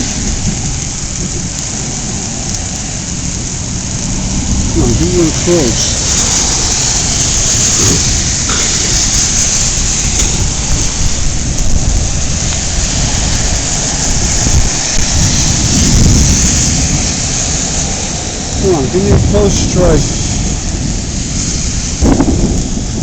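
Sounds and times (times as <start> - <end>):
heavy rain falling: 0.0 - 23.0
thunder rumbling: 0.0 - 23.0.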